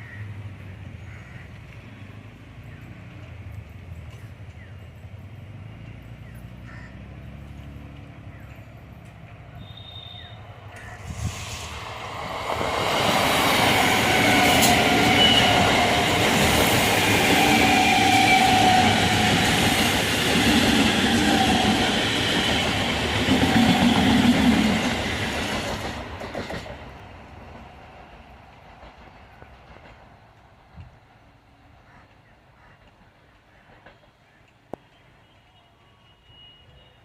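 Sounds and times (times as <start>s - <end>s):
train passing on rails: 0.0s - 37.0s.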